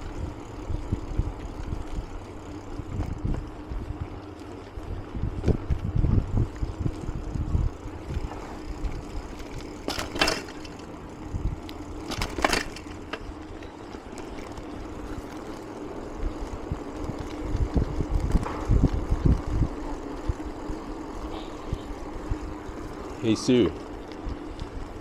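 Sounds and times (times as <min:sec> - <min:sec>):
wind buffeting microphone: 0:00.0 - 0:13.6, 0:16.0 - 0:25.0
bike tyre hum: 0:00.0 - 0:25.0.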